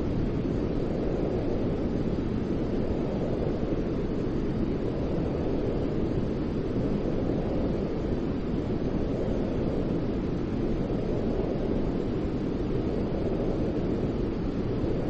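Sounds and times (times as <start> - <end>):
steady white noise hiss: 0.0 - 15.0.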